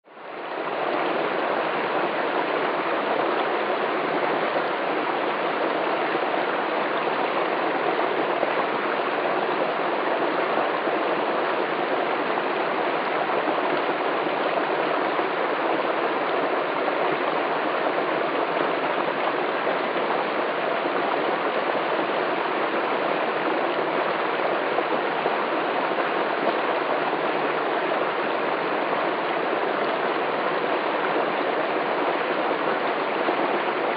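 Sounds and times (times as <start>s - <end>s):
stream cascading over rocks: 0.1s - 33.9s.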